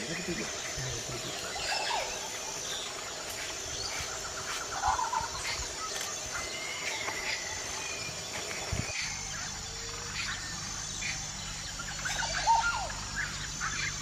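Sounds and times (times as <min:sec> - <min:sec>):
bird calls and chirps: 0:00.0 - 0:14.0.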